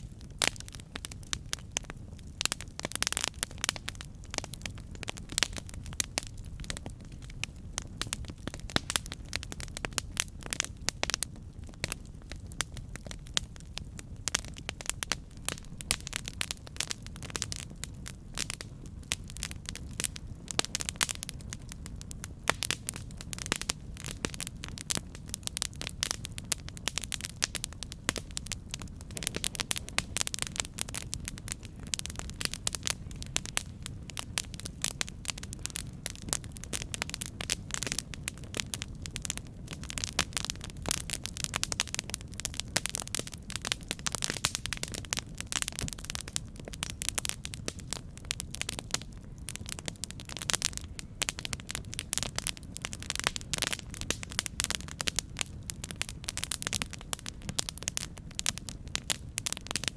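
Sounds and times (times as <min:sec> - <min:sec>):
campfire crackling and popping: 0:00.0 - 0:59.9
low campfire rumble: 0:00.0 - 0:59.9.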